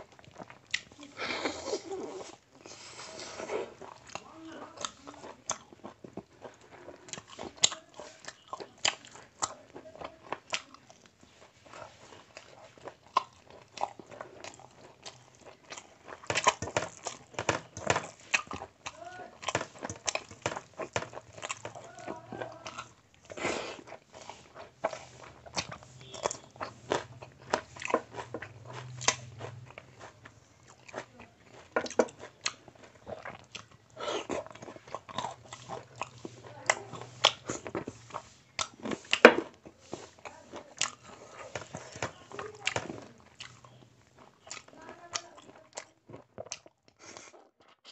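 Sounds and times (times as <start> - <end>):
chewing clicks and smacks: 0.0 - 1.0, 3.8 - 47.9
wet squishing of rice by hand: 0.0 - 46.9.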